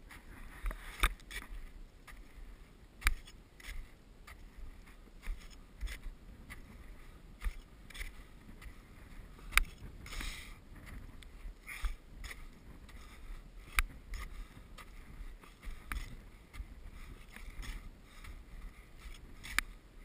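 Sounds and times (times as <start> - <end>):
boots crunching in snow: 0.0 - 19.8.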